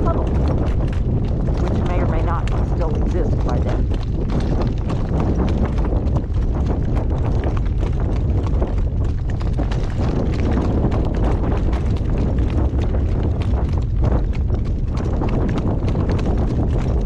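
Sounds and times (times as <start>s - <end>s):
horse hooves clip-clopping: 0.0s - 17.0s
steady low rumble: 0.0s - 17.0s.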